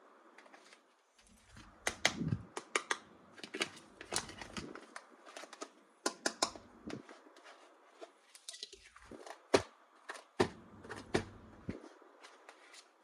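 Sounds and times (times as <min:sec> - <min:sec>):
plastic toys and packaging clicking: 0:00.3 - 0:13.0.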